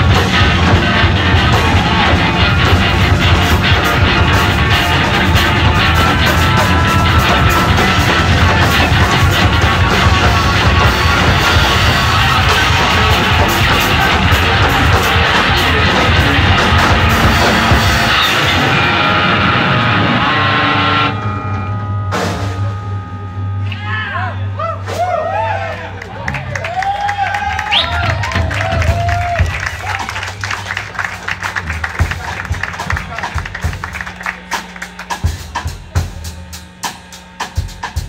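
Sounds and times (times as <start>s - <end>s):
distorted electric guitars: 0.0s - 24.6s, 26.0s - 38.0s
drums: 0.0s - 38.0s.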